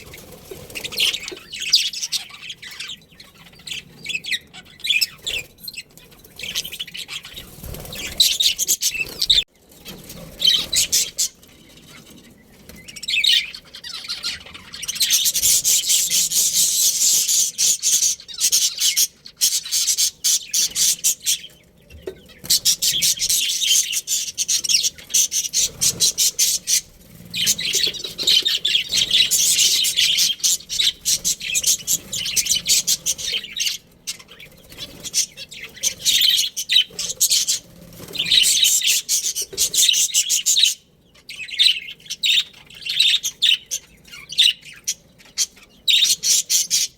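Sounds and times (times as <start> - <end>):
budgerigars chirping and chattering: 0.0 - 46.9.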